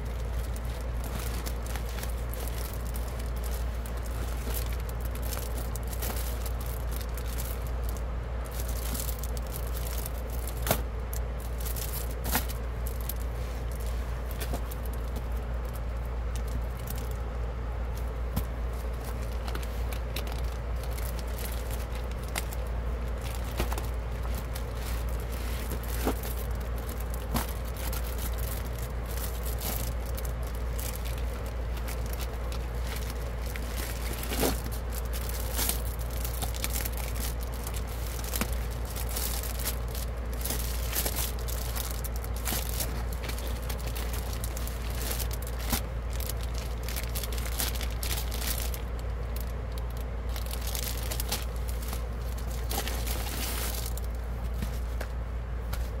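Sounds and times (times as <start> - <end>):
plastic packaging crinkling: 0.0 - 55.0.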